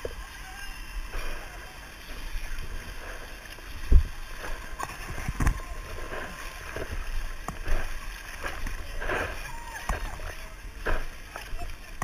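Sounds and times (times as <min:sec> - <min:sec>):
mud sloshing and splashing: 0:01.0 - 0:12.0.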